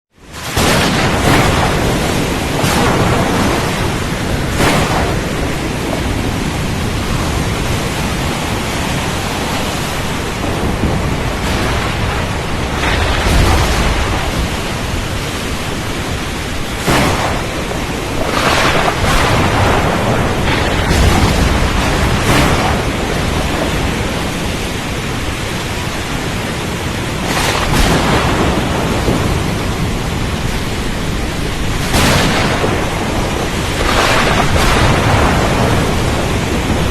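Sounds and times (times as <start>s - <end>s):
rain: 0.1s - 36.9s
rough water: 0.1s - 36.9s
wind roaring: 0.1s - 36.9s
thunder rumbling: 0.2s - 36.9s.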